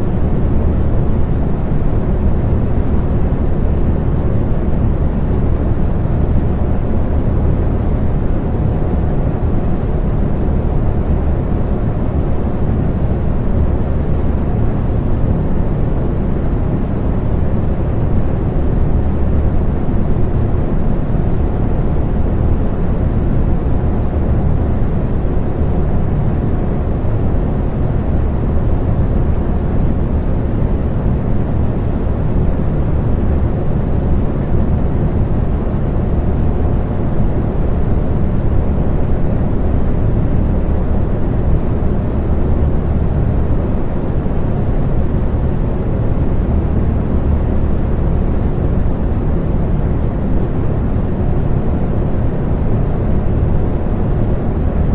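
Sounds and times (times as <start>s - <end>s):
electric fan running: 0.0s - 54.9s.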